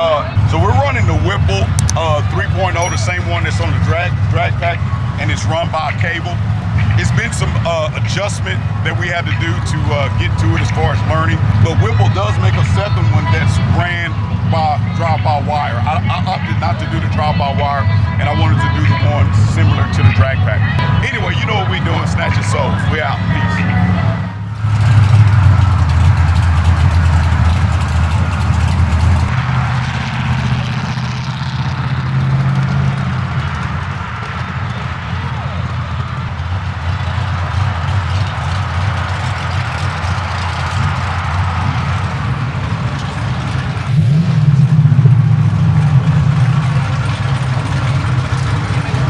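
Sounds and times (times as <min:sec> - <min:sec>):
car engine droning at low revs: 0:00.0 - 0:49.0.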